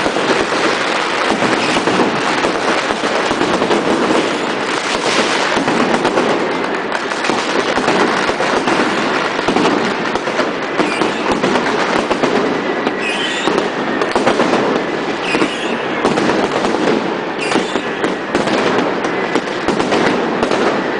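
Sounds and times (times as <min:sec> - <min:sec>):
fireworks crackling and banging: 0:00.0 - 0:20.9.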